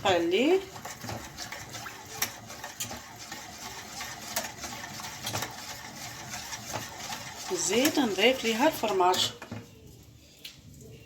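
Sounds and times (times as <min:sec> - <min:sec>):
utensil stirring sauce in a pan: 0:00.0 - 0:11.0.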